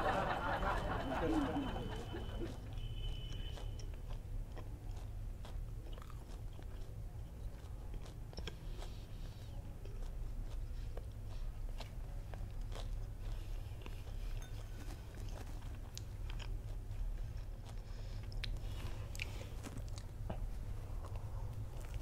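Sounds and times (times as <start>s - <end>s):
crunchy chewing: 1.2s - 22.0s.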